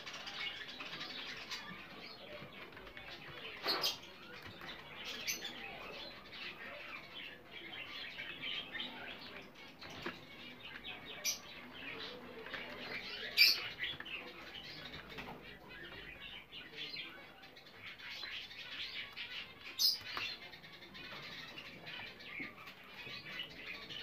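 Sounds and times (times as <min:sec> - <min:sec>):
budgerigars chattering and warbling: 0:00.0 - 0:24.0.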